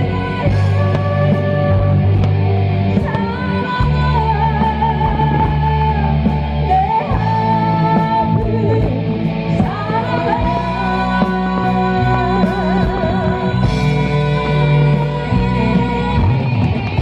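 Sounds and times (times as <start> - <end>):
live band playing: 0.0 - 17.0
woman singing: 0.0 - 17.0.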